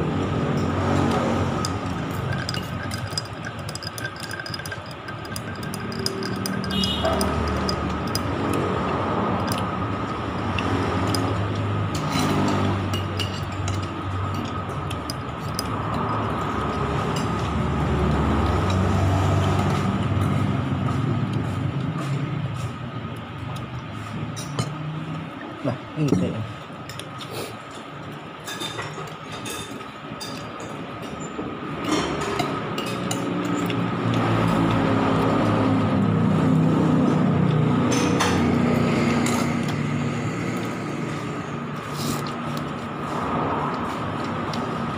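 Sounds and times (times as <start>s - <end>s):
vehicle engine humming: 0.0s - 28.4s, 29.9s - 44.9s.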